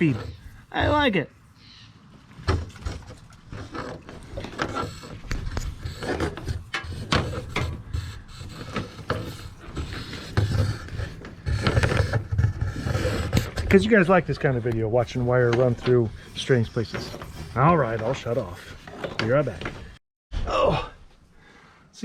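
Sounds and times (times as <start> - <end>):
cable rubbing and scraping: 0.0 - 1.2, 2.4 - 20.0.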